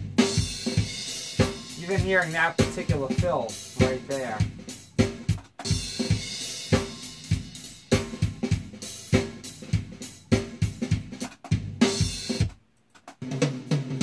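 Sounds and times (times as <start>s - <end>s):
acoustic drum kit playing: 0.0s - 14.0s.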